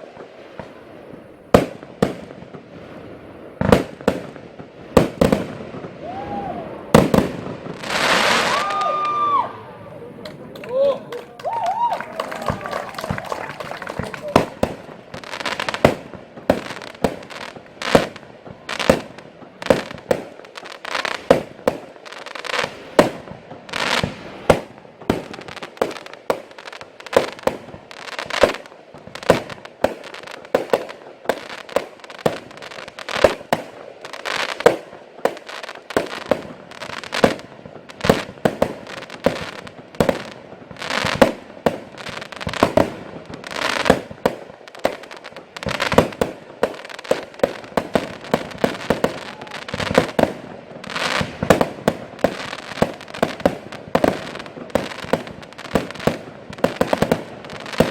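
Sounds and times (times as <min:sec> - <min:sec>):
fireworks bangs with crackling: 0:00.0 - 0:57.9.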